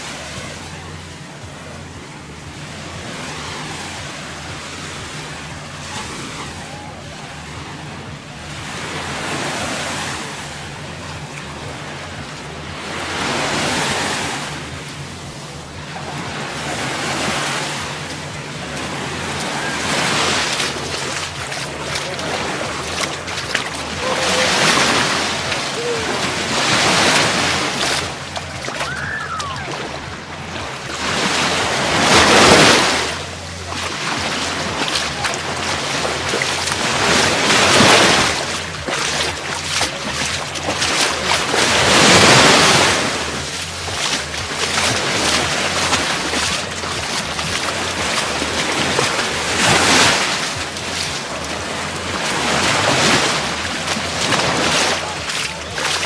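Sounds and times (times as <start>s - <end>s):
small waves breaking on sand: 0.0s - 56.0s.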